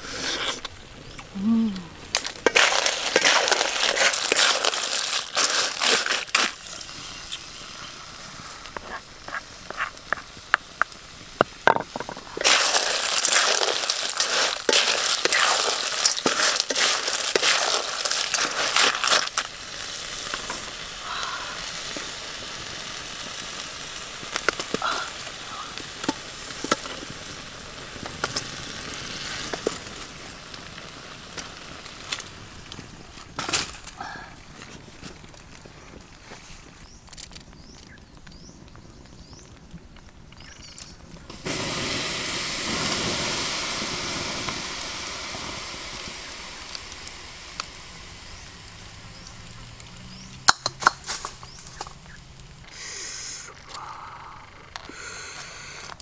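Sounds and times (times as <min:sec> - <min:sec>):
crackles: 0:00.0 - 0:56.0
clams sizzling in wok: 0:01.9 - 0:34.3, 0:40.4 - 0:56.0.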